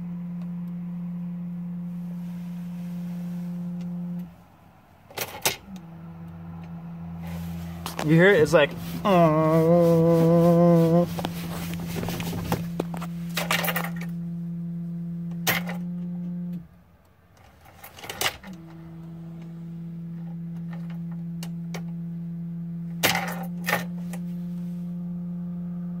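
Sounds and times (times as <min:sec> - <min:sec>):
fuel pump low hum: 0:00.0 - 0:26.0.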